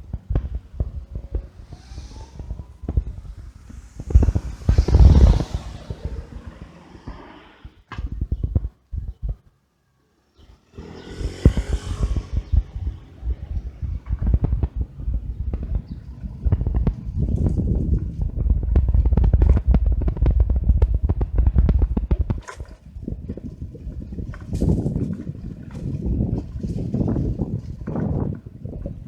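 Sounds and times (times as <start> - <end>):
wind buffeting microphone: 0.0 - 9.5, 10.4 - 29.0.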